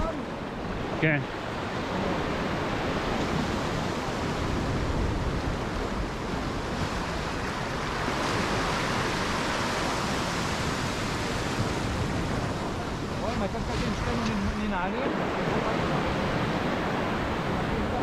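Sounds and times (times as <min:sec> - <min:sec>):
sea surf breaking on rock: 0:00.0 - 0:18.0.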